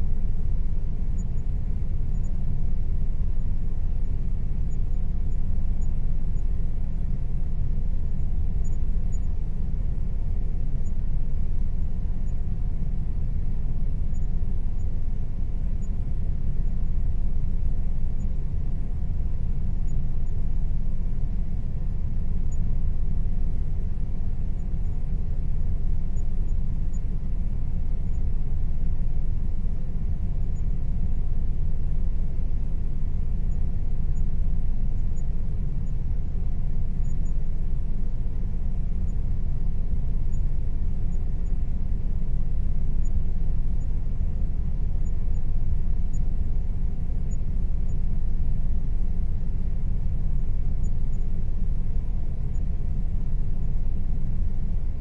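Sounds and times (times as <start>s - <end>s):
air conditioner running: 0.0s - 55.0s.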